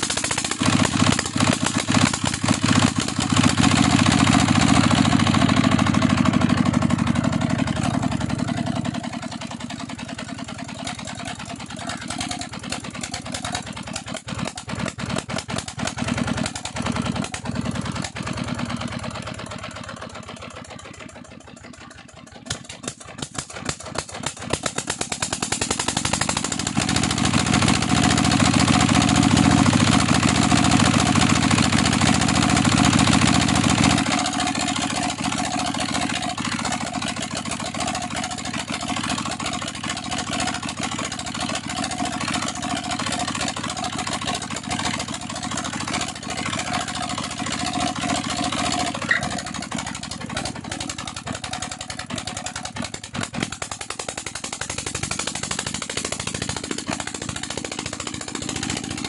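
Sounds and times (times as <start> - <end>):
diesel engine starting and running: 0.0 - 59.0.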